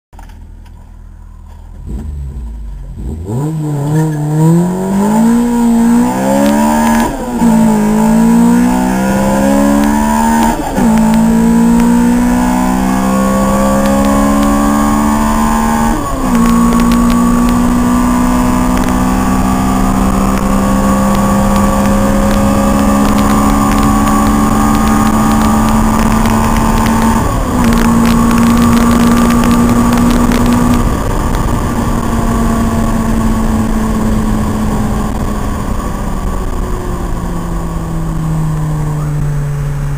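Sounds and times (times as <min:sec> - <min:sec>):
car engine accelerating through gears: 0:00.2 - 0:39.9.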